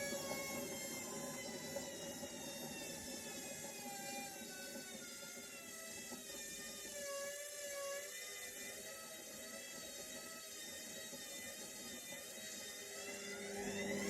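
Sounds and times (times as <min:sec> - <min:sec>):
washing machine motor whirring: 0:00.0 - 0:14.0.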